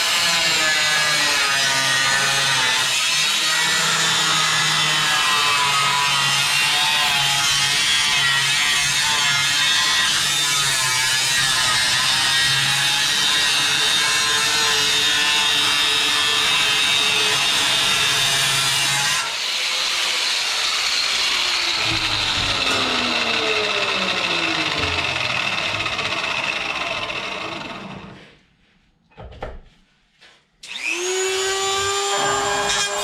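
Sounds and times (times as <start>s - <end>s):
power tool grinding steel: 0.0s - 28.2s, 30.6s - 33.0s.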